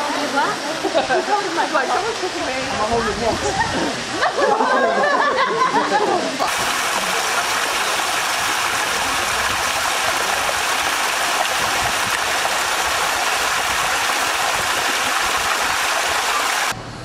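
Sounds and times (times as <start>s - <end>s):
small waterfall rushing: 0.0s - 16.8s.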